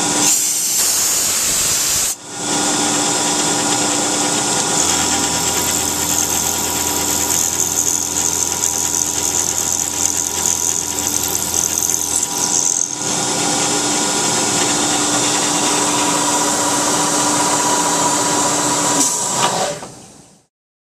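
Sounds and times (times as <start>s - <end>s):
milling machine whining: 0.0s - 20.0s.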